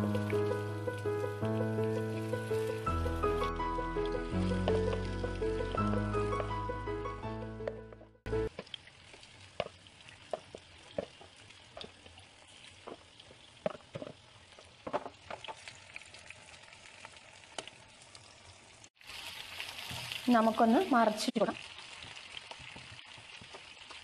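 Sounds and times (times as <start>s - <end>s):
chicken sizzling in oil: 0.0s - 6.9s, 8.3s - 24.0s
oil popping and crackling: 0.0s - 7.0s, 7.6s - 24.0s.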